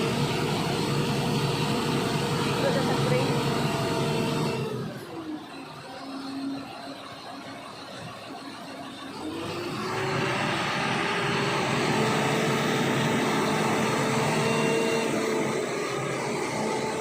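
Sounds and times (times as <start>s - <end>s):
construction vehicle engine revving: 0.0s - 17.0s.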